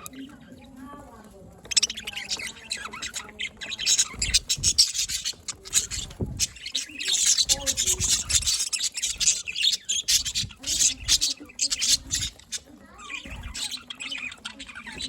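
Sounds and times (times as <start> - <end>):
budgerigars chirping and chattering: 0.0 - 15.0.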